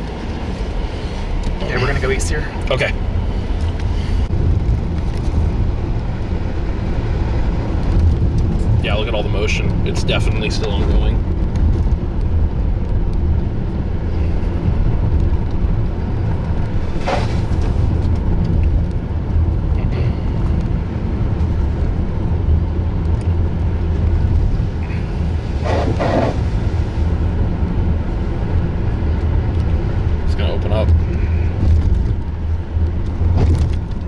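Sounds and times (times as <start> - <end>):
road and engine rumble in car: 0.0 - 34.0.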